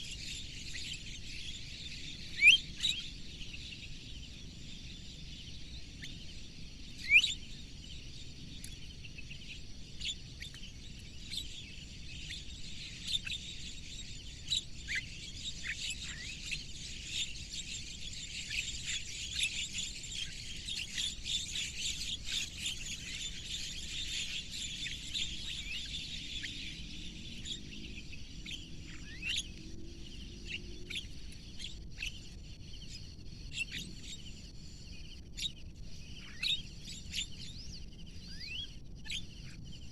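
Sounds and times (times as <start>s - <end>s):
birds chirping: 0.0s - 39.9s
faint high-pitched hum: 0.0s - 39.9s.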